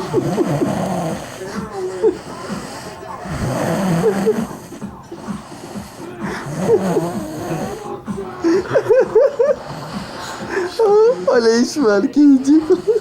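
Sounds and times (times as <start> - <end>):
person snoring: 0.0 - 11.6.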